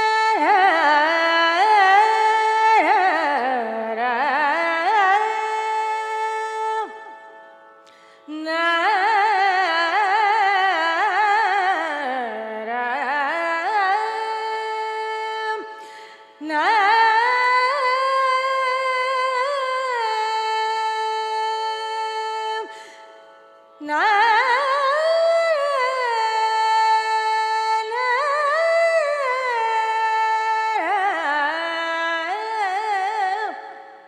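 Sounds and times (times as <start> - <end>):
woman singing classical vocals: 0.0 - 7.2, 8.3 - 23.0, 23.8 - 34.0.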